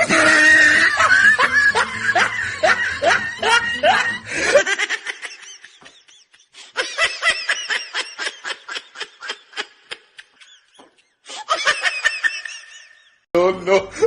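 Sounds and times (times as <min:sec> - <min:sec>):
high-pitched laughter: 0:00.0 - 0:13.2.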